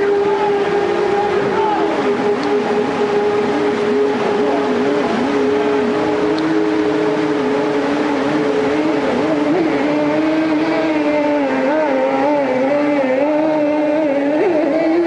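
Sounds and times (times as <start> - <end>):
outboard motors at high revs: 0.0 - 15.0
rush of whitewater: 0.0 - 15.0.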